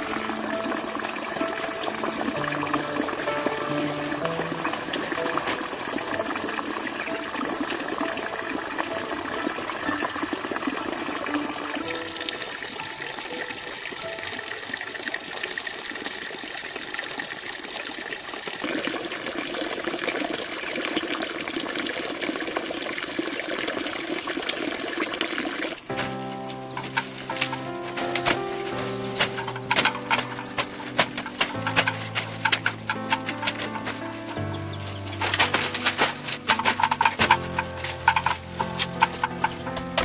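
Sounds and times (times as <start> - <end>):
water rushing: 0.0 - 40.0.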